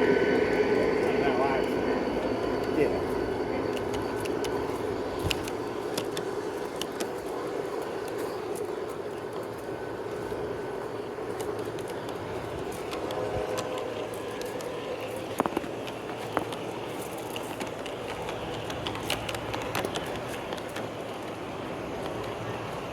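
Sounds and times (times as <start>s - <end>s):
model train motor hum: 0.0s - 22.9s
small clicks of train wheels: 0.4s - 22.9s.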